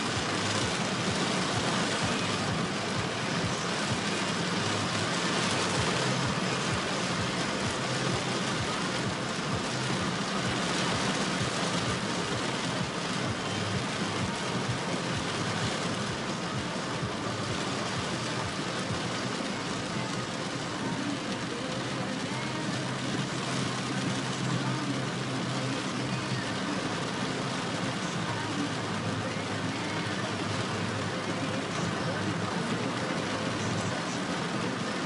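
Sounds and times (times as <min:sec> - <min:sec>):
car engine and tyres running: 0:00.0 - 0:35.0
heavy rain on a car: 0:00.0 - 0:35.0.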